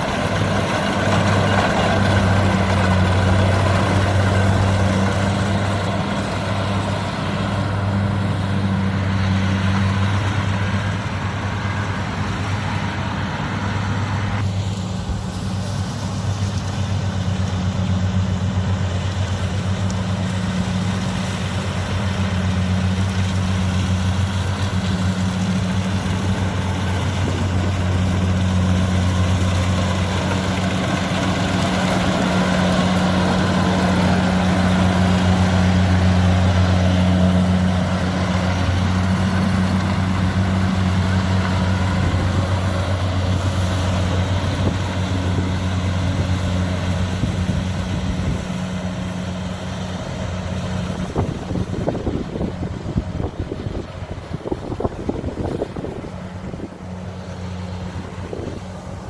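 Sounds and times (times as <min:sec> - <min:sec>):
harvester engine droning: 0:00.0 - 0:59.0.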